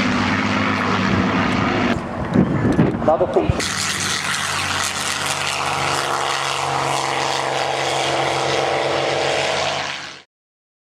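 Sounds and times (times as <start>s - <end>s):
propeller plane engine at takeoff: 0.0s - 10.3s.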